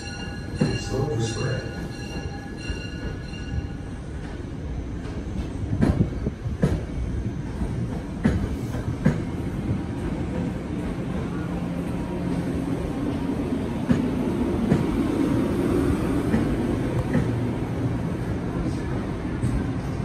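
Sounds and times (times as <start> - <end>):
train coaches rumbling past: 0.0 - 20.0.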